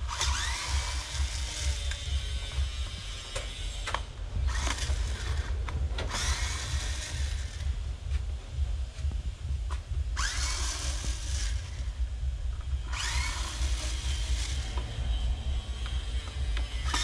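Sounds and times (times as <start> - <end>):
power drill whirring: 0.0 - 7.7, 10.2 - 12.0, 12.6 - 17.0
steady low rumble: 0.0 - 17.0.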